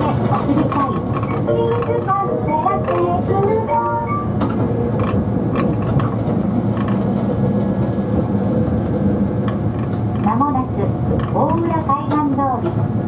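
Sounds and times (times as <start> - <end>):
streetcar rumbling on track: 0.0 - 13.0.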